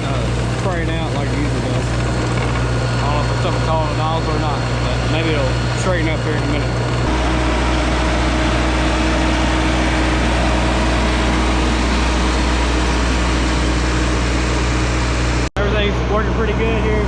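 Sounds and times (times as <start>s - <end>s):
slurry agitator rushing: 0.0s - 17.0s
tractor engine hum: 0.0s - 17.0s.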